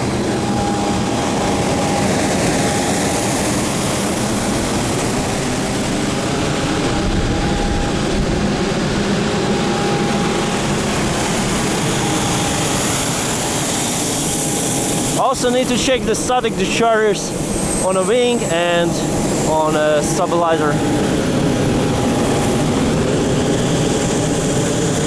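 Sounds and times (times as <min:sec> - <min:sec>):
jet turbine roaring with high whine: 0:00.0 - 0:25.0.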